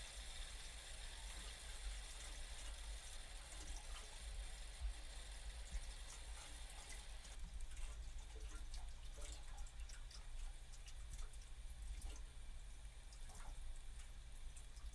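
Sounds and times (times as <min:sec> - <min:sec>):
water drips and trickles: 0:00.0 - 0:14.9
water hissing through pipes: 0:00.0 - 0:14.9.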